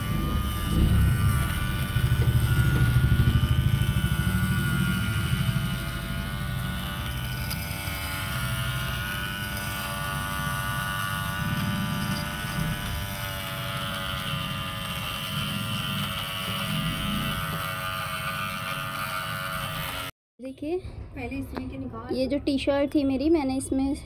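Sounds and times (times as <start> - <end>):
small motor whirring hum: 0.0 - 20.2.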